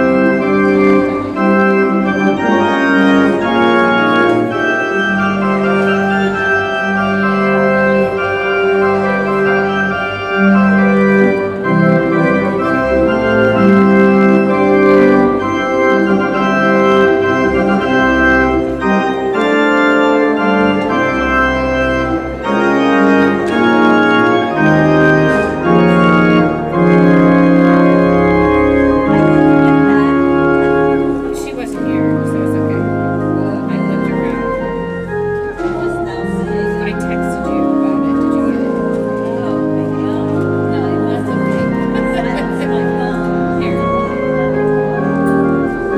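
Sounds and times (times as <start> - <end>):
organ playing sustained chords: 0.0 - 45.9.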